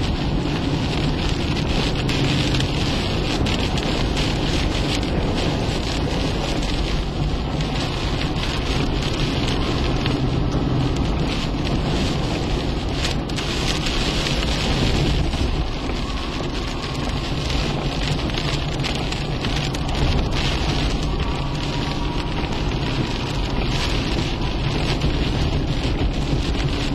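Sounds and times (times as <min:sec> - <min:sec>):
heavy rain on a car: 0:00.0 - 0:26.9
road noise rumble: 0:00.0 - 0:26.9.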